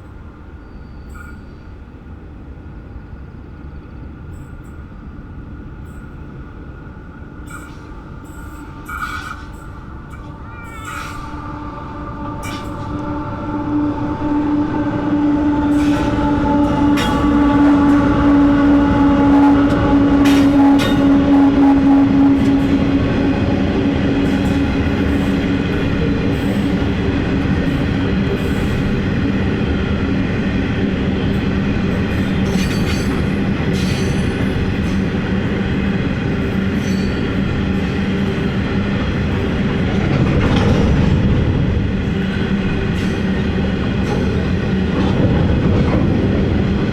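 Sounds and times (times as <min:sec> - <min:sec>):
diesel locomotive engines: 0:00.0 - 0:46.9
train rumble: 0:00.0 - 0:46.9.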